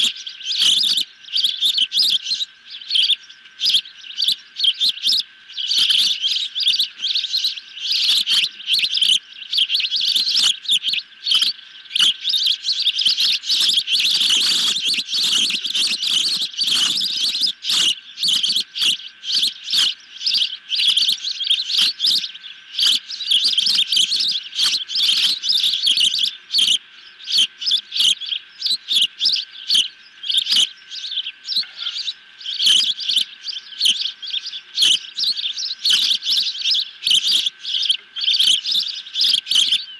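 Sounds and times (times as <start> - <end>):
young ospreys chirping: 0.0 - 39.9.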